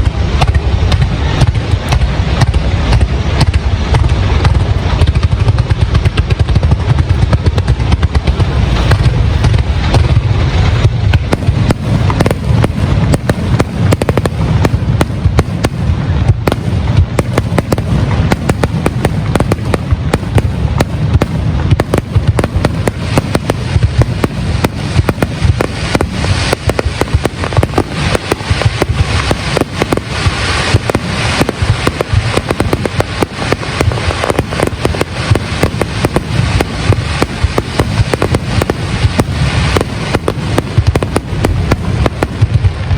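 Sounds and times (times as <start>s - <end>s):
deep booming fireworks: 0.0s - 42.9s
fireworks bangs and crackling: 0.0s - 42.9s.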